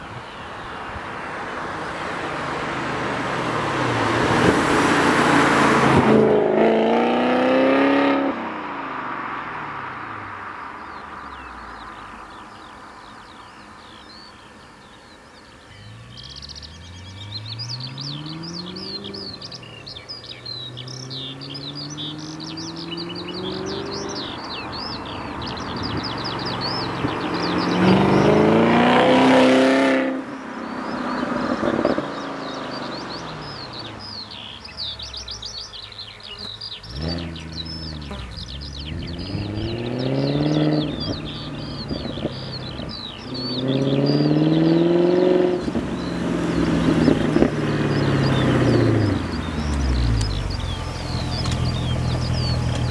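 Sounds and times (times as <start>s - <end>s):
birds chirping: 0.0s - 52.9s
car engine accelerating: 1.2s - 12.6s, 15.6s - 52.9s.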